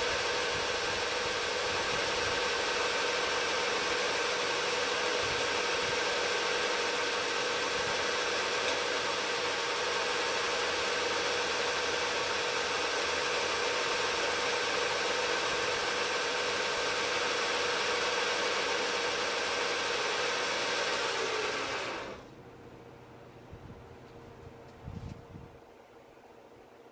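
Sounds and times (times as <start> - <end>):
milling machine whine: 0.0 - 22.3.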